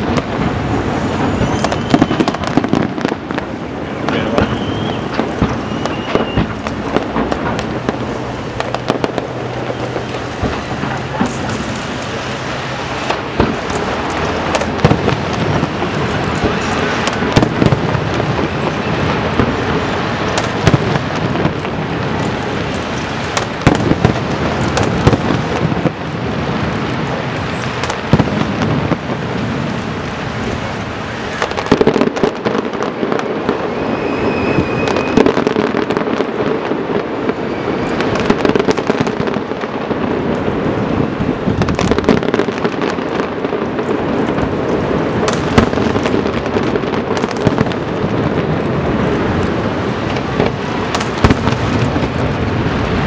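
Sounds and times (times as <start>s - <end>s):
fireworks crackling and banging: 0.0s - 53.0s.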